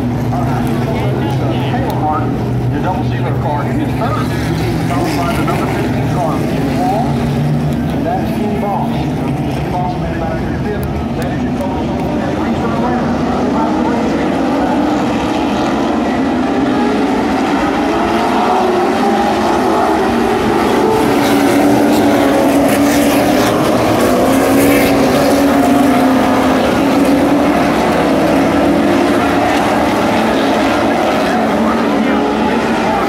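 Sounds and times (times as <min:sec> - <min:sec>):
race car engines: 0:00.0 - 0:33.0.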